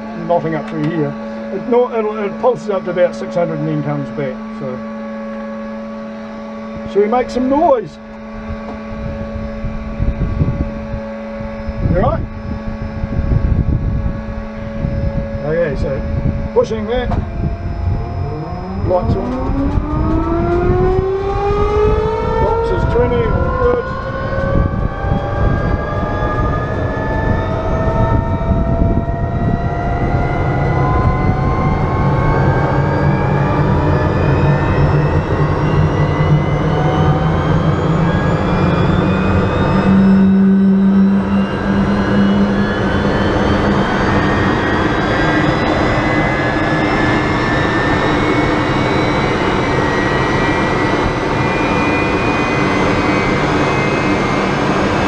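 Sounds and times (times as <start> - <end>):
dense engine rumble: 0.0 - 55.0
low hum: 0.0 - 55.0
turbojet whine climbing: 0.0 - 55.0.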